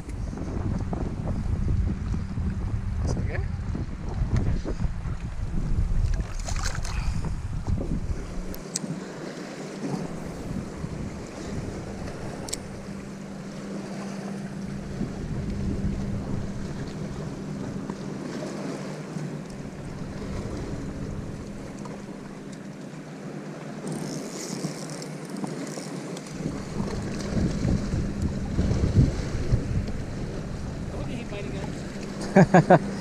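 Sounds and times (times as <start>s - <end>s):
wind buffeting microphone: 0.0s - 9.1s, 9.8s - 22.5s, 26.3s - 33.0s
steady low hum: 0.0s - 25.4s, 26.2s - 33.0s
water lapping against boat hull: 0.0s - 33.0s.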